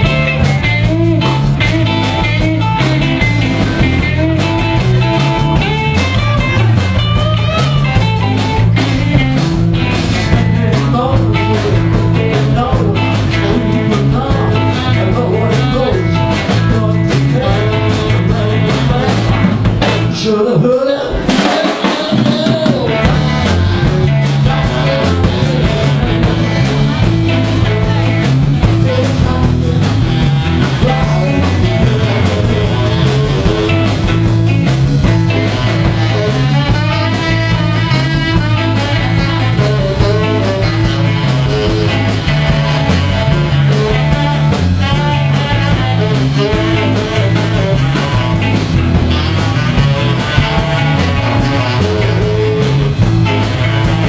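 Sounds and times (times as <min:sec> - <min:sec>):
repeating bass line: 0:00.0 - 0:20.3, 0:22.3 - 0:54.0
drum kit: 0:00.0 - 0:54.0
electric guitar: 0:00.0 - 0:54.0.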